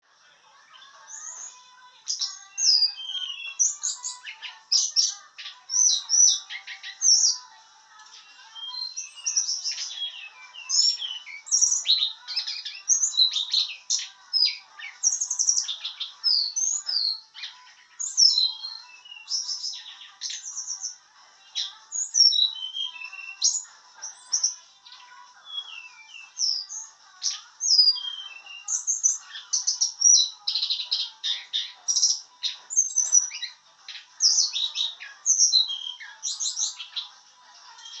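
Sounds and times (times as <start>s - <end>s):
songbird chirping and trilling: 0.0s - 38.0s.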